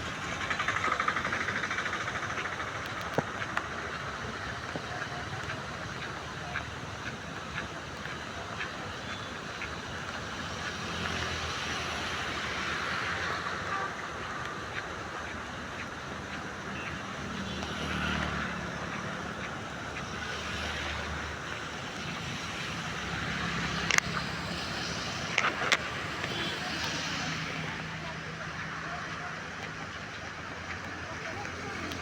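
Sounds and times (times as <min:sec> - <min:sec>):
steady rain: 0:00.0 - 0:32.0
vehicles passing on wet road: 0:00.0 - 0:32.0.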